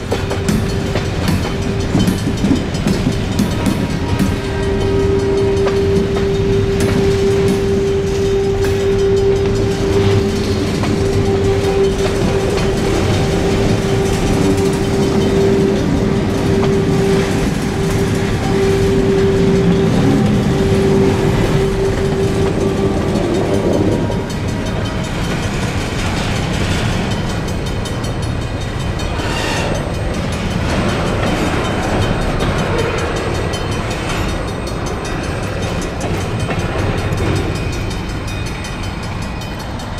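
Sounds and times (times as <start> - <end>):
freight cars rumbling over rails: 0.0 - 39.9
steady ringing tone: 0.0 - 39.9.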